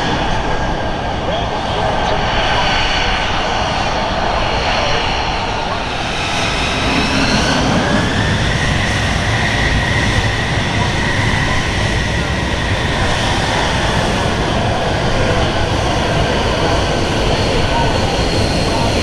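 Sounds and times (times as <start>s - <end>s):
jet engine roar and whine: 0.0s - 19.0s.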